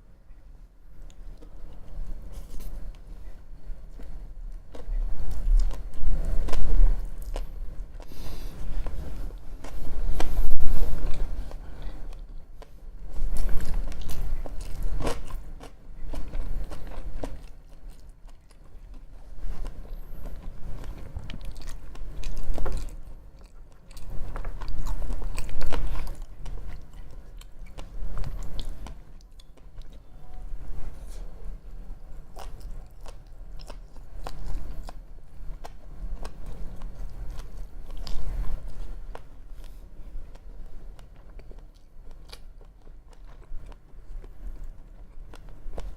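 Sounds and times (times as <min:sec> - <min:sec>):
chewing and biting food: 0:03.9 - 0:30.1, 0:32.1 - 0:45.9.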